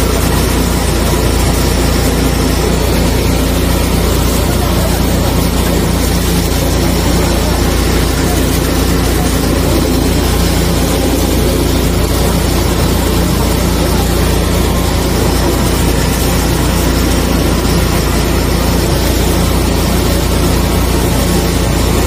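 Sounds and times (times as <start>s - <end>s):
drain jetter engine running: 0.0s - 22.0s.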